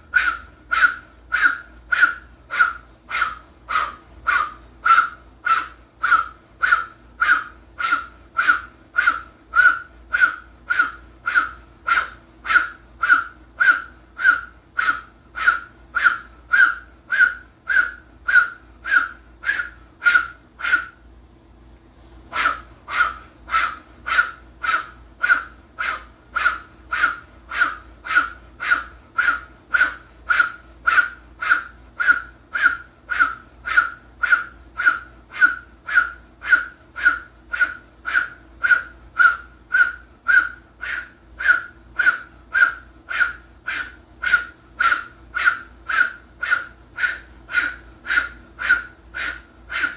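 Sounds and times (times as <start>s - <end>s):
forceful whistling exhalations: 0.0s - 21.0s, 22.4s - 49.9s.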